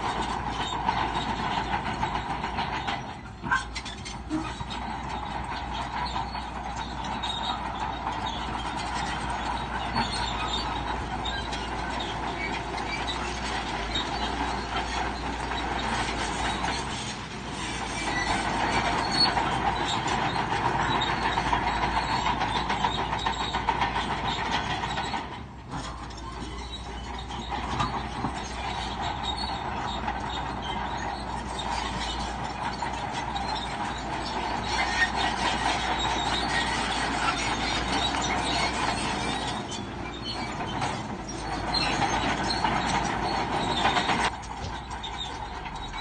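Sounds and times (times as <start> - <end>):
bulldozer diesel engine under load: 0.0 - 46.0
steel tracks clanking and squealing: 0.0 - 46.0.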